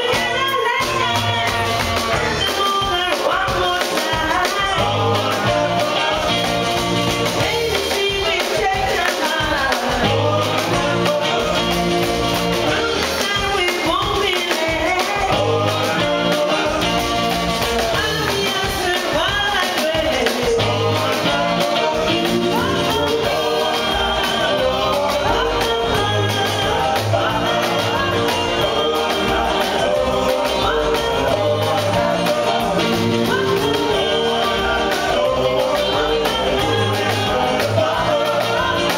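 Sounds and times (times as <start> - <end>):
woman singing: 0.0 - 6.6, 7.2 - 11.8, 12.6 - 17.0, 17.8 - 38.9
drums: 0.0 - 38.9
rock and roll band playing: 0.0 - 38.9
slapped upright bass: 0.0 - 38.9
man singing: 2.1 - 38.9.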